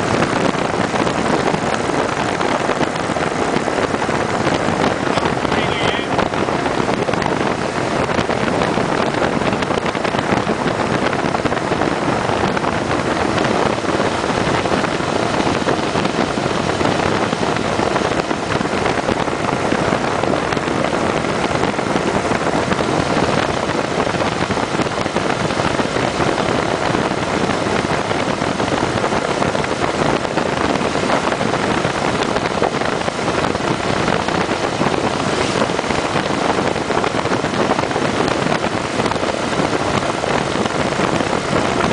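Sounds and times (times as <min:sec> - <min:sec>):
motorcycle engine running: 0:00.0 - 0:41.9
road noise: 0:00.0 - 0:41.9
wind rush on microphone: 0:00.0 - 0:41.9.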